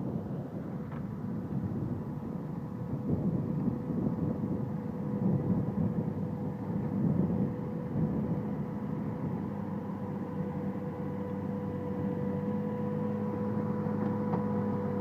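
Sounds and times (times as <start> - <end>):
thin steady whine: 0.0 - 15.0
tractor engine under load: 0.3 - 15.0.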